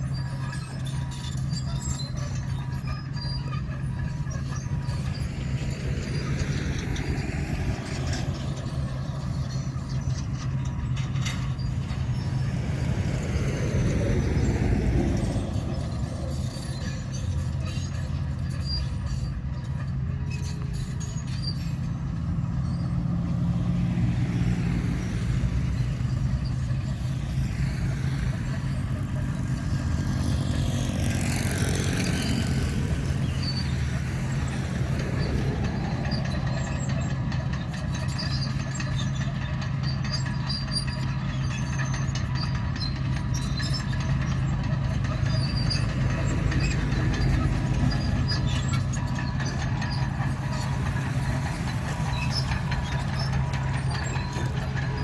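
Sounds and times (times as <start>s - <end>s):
bulldozer diesel engine drone: 0.0s - 55.0s
metallic clanking of tracks: 0.0s - 55.0s.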